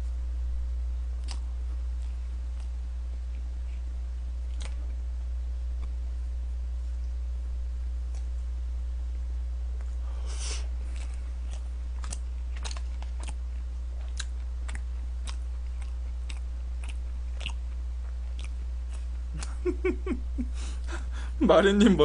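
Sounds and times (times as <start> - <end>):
steady low hum: 0.0 - 22.0
man chewing food: 1.1 - 5.1, 5.7 - 7.2, 7.9 - 8.5, 9.7 - 21.4.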